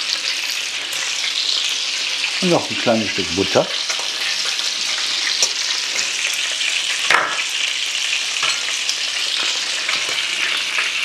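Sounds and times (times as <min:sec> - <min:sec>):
meat patties sizzling in oil: 0:00.0 - 0:11.0.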